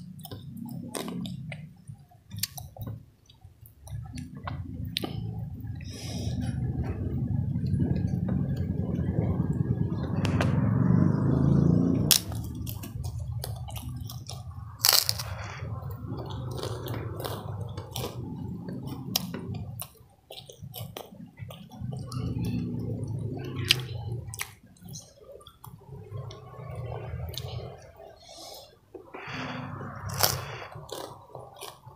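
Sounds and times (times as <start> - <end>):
person chewing food: 0.0 - 10.2, 11.1 - 31.9.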